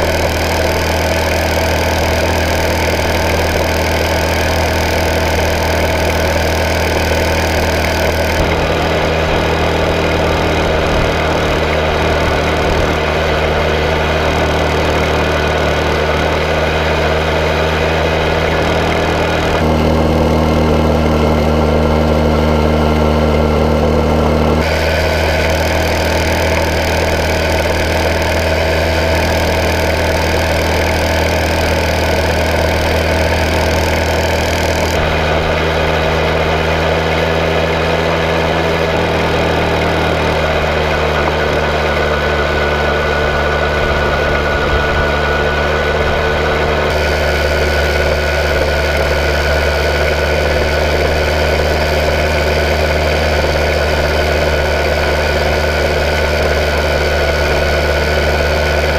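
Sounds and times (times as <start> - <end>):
motorbike engine running: 0.0 - 58.9.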